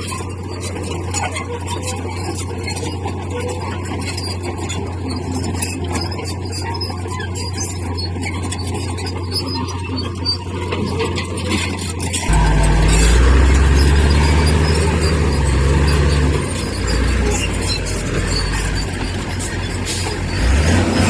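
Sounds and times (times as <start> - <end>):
heavy diesel machinery engine: 0.0 - 21.0.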